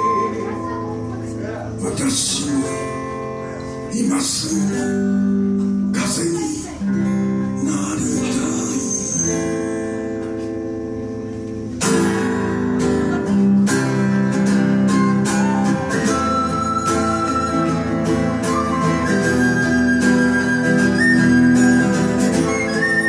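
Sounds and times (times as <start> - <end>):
acoustic guitars strumming: 0.0 - 23.0.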